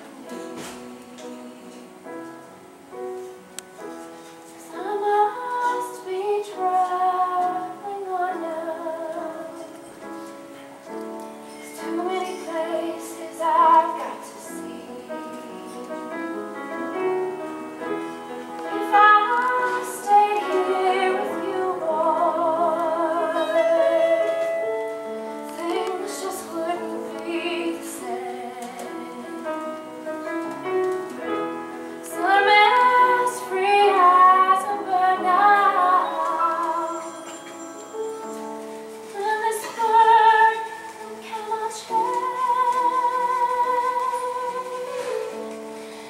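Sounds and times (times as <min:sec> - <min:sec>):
woman singing: 0:00.0 - 0:02.4, 0:04.6 - 0:09.9, 0:11.6 - 0:16.2, 0:17.4 - 0:30.6, 0:32.0 - 0:45.8
instrumental accompaniment: 0:00.0 - 0:46.0.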